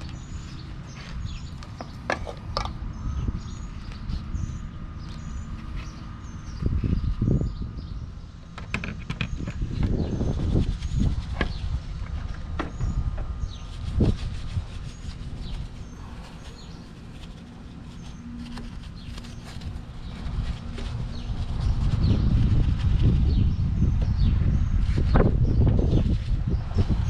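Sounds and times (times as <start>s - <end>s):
low rubbing and handling rumble: 0.0s - 27.0s.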